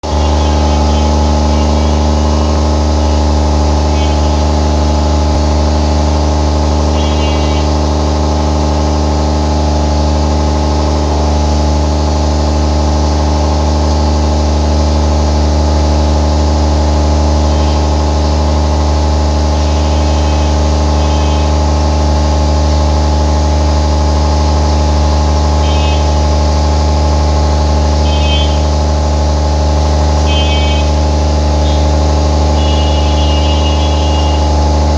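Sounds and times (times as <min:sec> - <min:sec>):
generator engine droning: 0:00.0 - 0:34.9.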